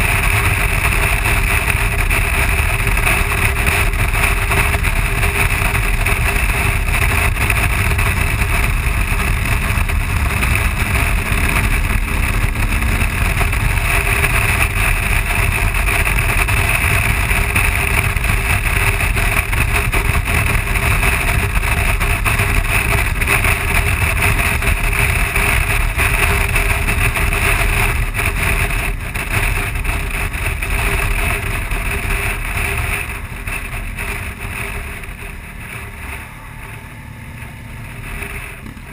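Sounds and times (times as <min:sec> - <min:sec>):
motorcycle road noise: 0:00.0 - 0:38.9
wind rush: 0:00.0 - 0:38.9.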